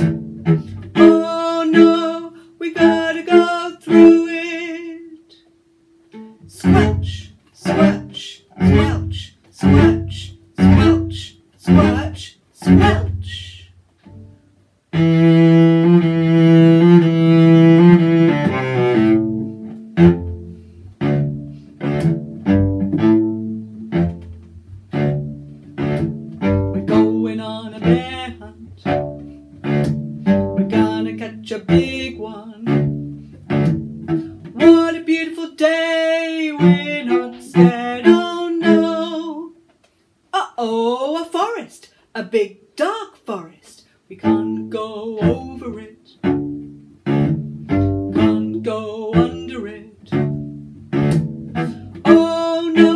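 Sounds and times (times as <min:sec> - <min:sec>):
low string instrument playing: 0:00.0 - 0:05.2, 0:06.0 - 0:39.6, 0:44.2 - 0:52.9.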